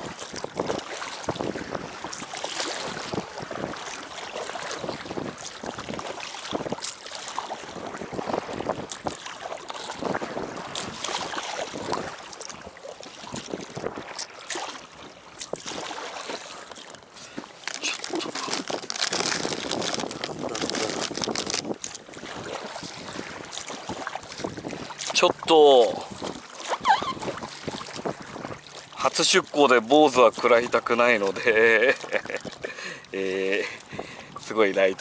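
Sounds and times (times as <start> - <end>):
wind buffeting microphone: 0.0 - 14.2, 17.3 - 28.8, 32.1 - 35.0
water lapping against boat hull: 0.0 - 35.0.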